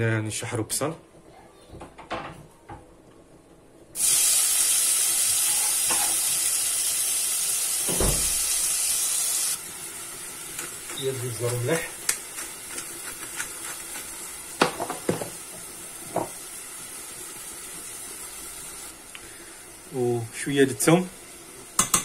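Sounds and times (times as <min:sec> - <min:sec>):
onion sizzling in hot oil: 0:04.0 - 0:22.0.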